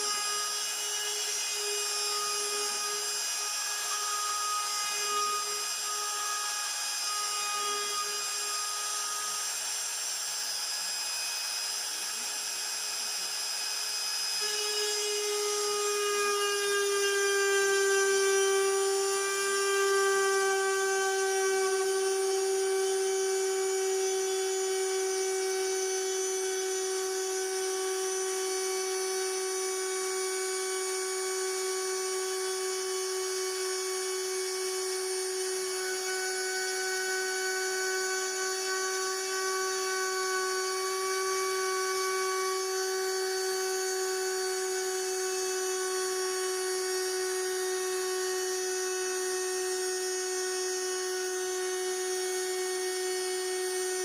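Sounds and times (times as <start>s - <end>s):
spindle motor high-pitched whine: 0.0s - 54.0s.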